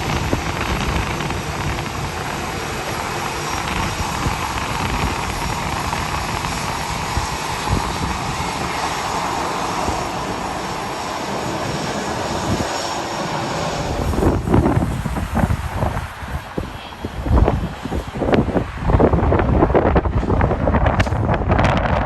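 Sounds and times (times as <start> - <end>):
jet airliner engines roaring overhead: 0.0 - 22.0
wind buffeting microphone: 0.0 - 22.0.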